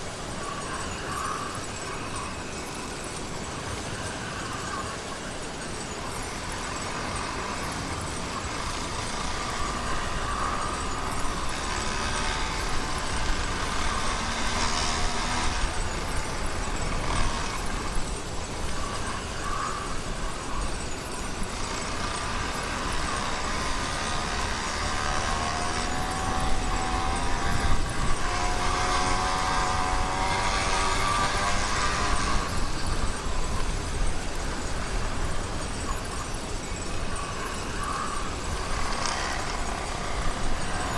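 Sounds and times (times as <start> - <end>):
two-stroke bicycle engine running: 5.4 - 40.9.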